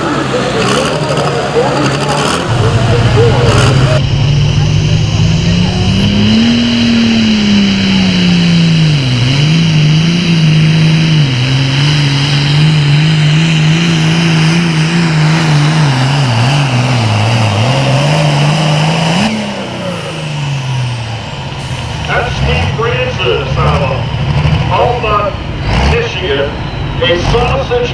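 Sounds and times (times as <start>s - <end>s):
tractor diesel engine under load: 0.0s - 27.9s.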